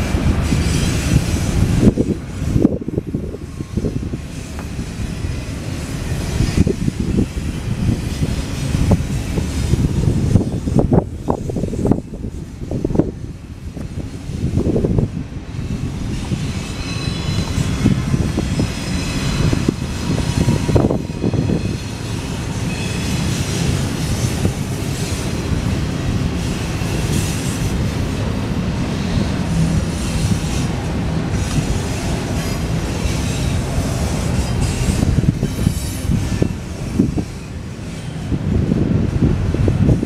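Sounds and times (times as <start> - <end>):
clickety-clack over rail joints: 0.0 - 40.0
freight train wheels rumbling: 0.0 - 40.0
high wheel squeal: 0.3 - 13.0, 14.3 - 38.5.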